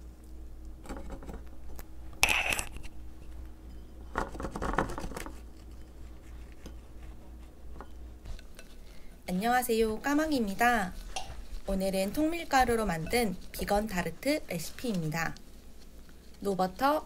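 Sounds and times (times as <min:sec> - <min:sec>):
steady low hum: 0:00.0 - 0:17.0
kitchen scraping and rustling: 0:00.8 - 0:01.6, 0:02.2 - 0:16.6.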